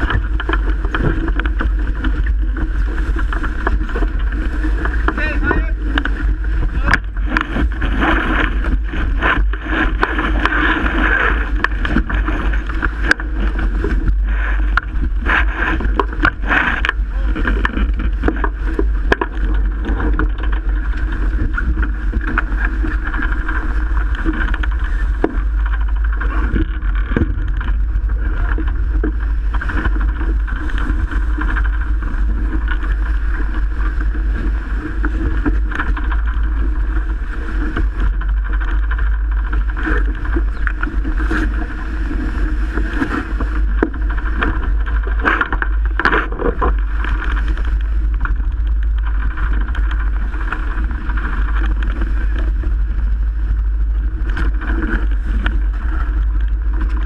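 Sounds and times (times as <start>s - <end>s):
water rushing along a hull: 0.0s - 57.0s
wind buffeting the microphone: 0.0s - 57.0s.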